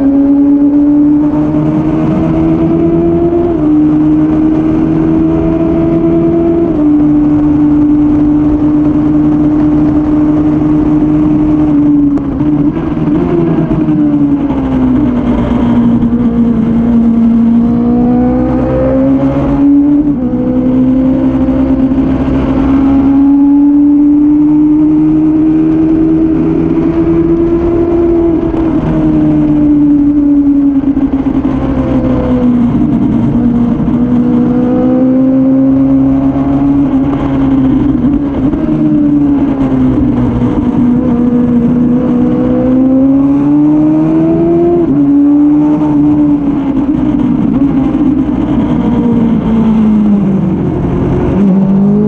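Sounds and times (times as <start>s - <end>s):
motorcycle engine running hard: 0.0s - 52.0s.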